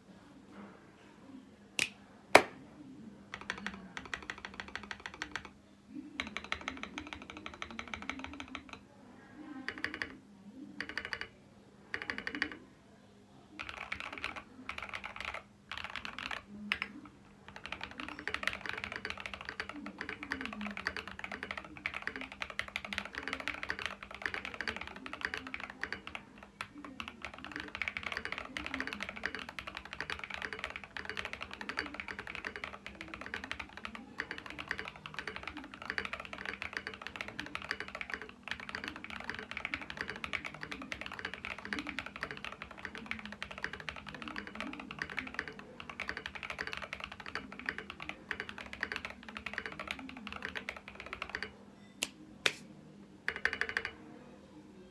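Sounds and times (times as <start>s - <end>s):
mechanical keyboard typing: 3.3s - 5.6s, 6.2s - 8.8s, 9.6s - 10.2s, 10.8s - 12.6s, 13.5s - 51.5s, 53.2s - 54.0s.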